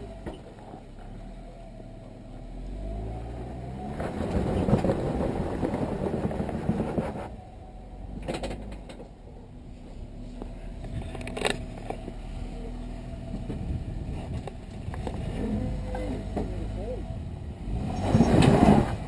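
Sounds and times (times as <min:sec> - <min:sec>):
vehicle engine running and revving: 0:00.0 - 0:09.0, 0:09.6 - 0:19.0.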